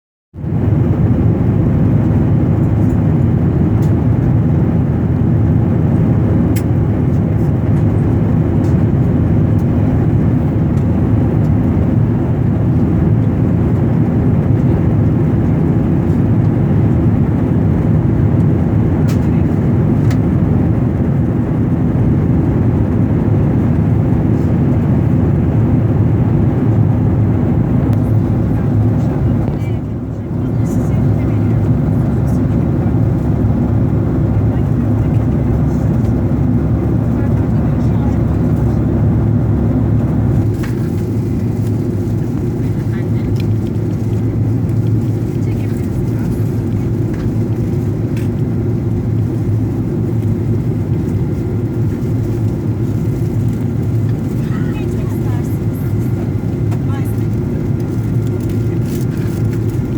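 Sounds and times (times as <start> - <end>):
airliner cabin engine rumble: 0.4 - 59.9.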